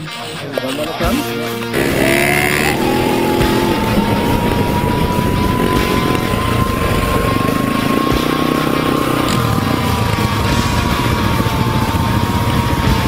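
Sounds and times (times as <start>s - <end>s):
dirt bike engine accelerating: 1.6s - 13.0s
wind noise on microphone: 1.8s - 13.0s.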